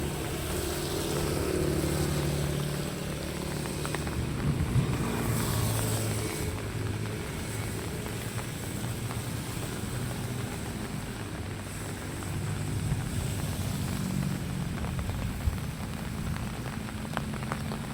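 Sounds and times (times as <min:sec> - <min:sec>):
vehicle engine humming: 0:00.0 - 0:17.9.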